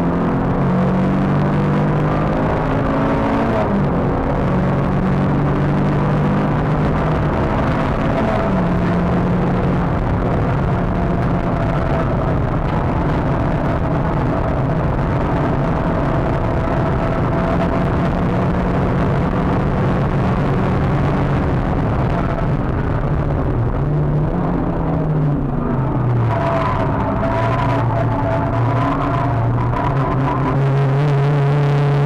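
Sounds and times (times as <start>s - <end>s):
car engine running hard: 0.0s - 32.0s
road noise: 0.0s - 32.0s
wind noise: 0.0s - 32.0s.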